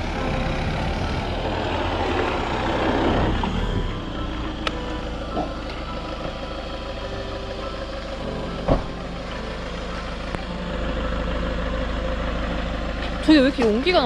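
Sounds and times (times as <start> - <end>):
van engine under load: 0.0 - 14.0.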